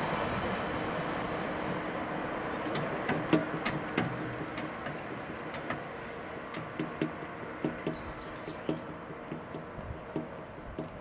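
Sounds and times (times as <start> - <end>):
wheels clacking over rail joints: 1.6 - 11.0.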